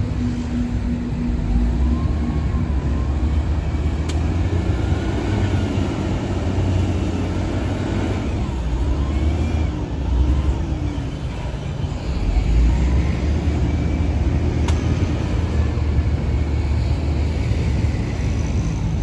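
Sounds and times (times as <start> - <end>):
high-pitched squeals: 0.0 - 18.9
diesel engine rumbling: 0.0 - 19.0.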